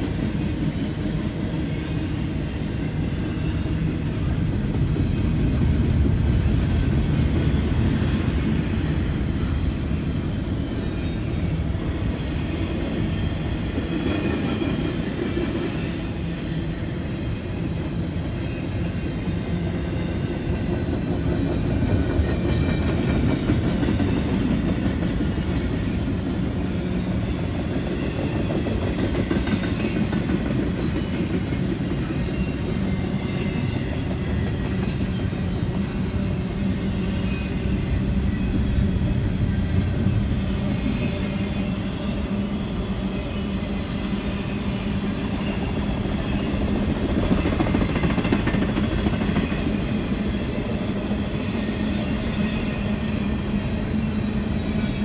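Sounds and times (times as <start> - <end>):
steel wheels rumbling on rails: 0.0 - 55.0.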